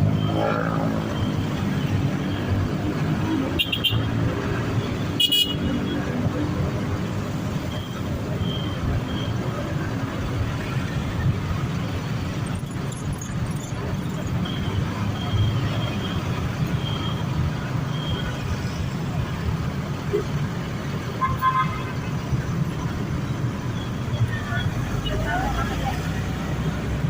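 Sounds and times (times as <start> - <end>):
bus engines and road noise: 0.0 - 27.0.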